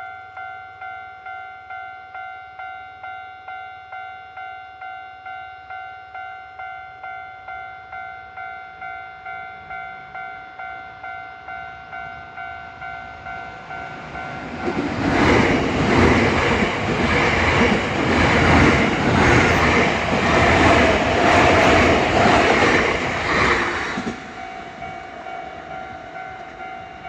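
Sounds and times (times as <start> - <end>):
approaching train: 0.0 - 27.0.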